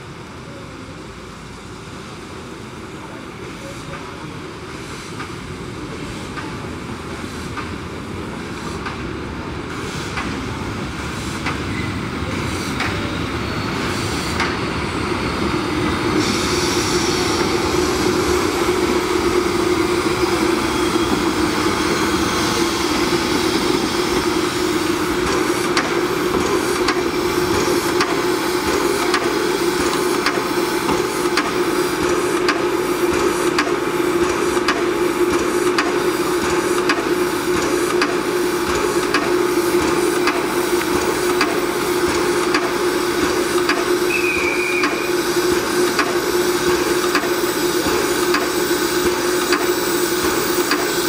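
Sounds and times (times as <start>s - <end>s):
steam locomotive passing: 0.0s - 51.0s.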